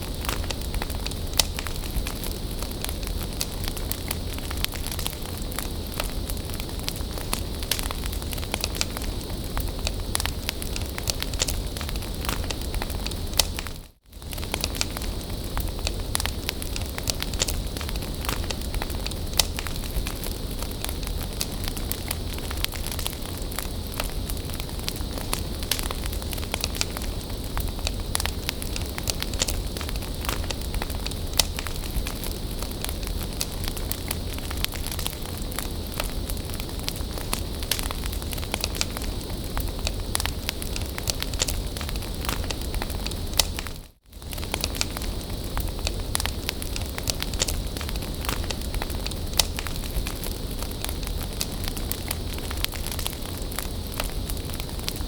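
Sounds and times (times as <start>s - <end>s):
bonfire hissing and rumbling: 0.0s - 55.0s
fire crackling and popping: 0.0s - 55.0s.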